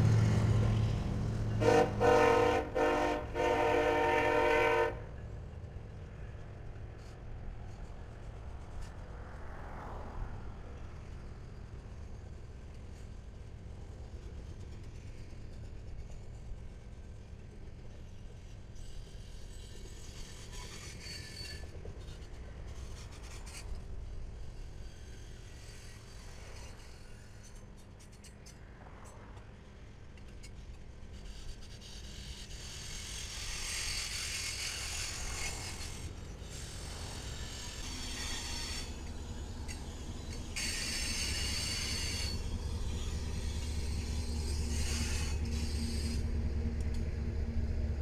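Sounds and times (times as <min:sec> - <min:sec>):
train rumbling on rails: 0:00.0 - 0:48.0
wheels hissing on rail: 0:00.0 - 0:48.0.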